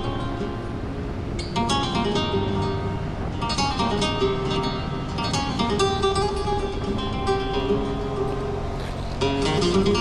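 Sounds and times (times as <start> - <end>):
flamenco acoustic guitar: 0.0 - 10.0.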